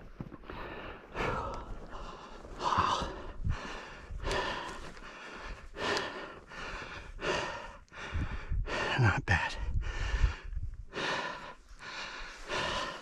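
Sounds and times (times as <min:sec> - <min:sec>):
man breathing heavily: 0:00.2 - 0:13.0.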